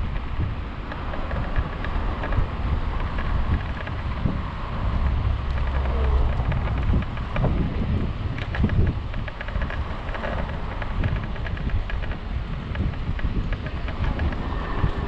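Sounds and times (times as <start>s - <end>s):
electric scooter rolling on asphalt: 0.0s - 15.0s
small clicks and rattles: 0.0s - 15.0s
wind buffeting microphone: 0.0s - 15.0s.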